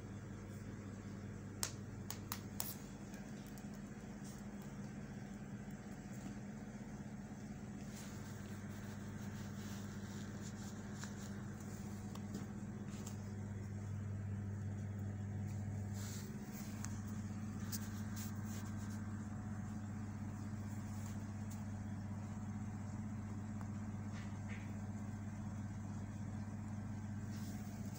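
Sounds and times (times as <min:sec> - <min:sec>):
low mechanical hum: 0:00.0 - 0:27.9.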